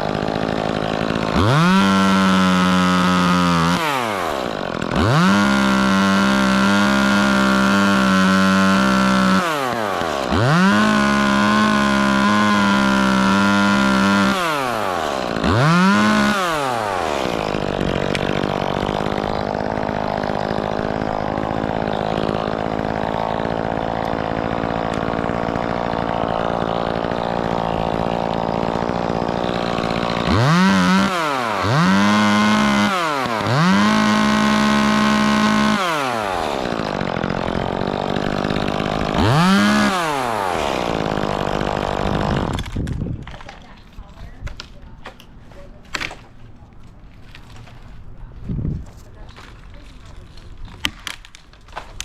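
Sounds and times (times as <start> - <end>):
chainsaw revving: 0.0 - 43.8.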